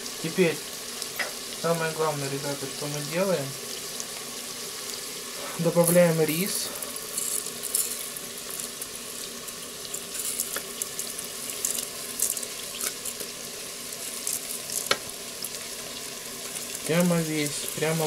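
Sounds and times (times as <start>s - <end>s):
chicken sizzling and crackling: 0.0s - 18.0s.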